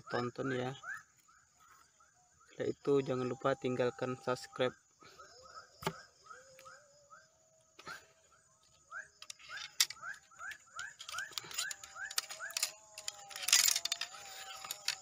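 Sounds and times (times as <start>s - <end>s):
frogs chirping: 0.0s - 15.0s
high insect drone: 0.0s - 15.0s.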